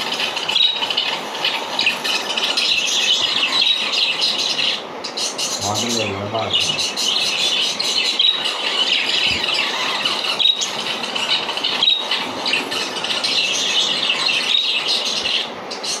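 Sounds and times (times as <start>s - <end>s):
parrots chattering and squawking: 0.0s - 16.0s
sharp parrot calls: 0.0s - 16.0s.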